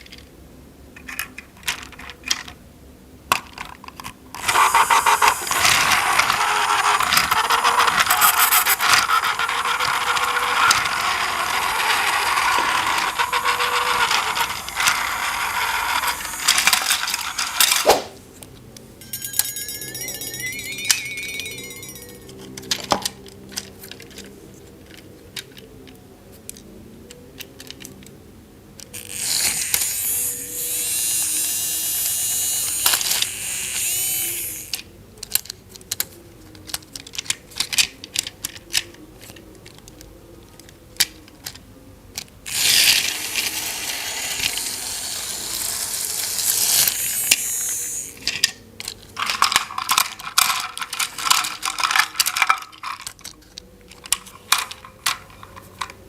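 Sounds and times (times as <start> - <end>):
plastic toy pieces clattering: 1.0 - 2.6, 3.3 - 17.9, 20.2 - 26.6, 27.4 - 28.1, 32.8 - 41.6, 42.2 - 56.0
toy motor whirring: 4.3 - 18.0, 19.0 - 25.6, 28.8 - 40.0, 42.2 - 56.0.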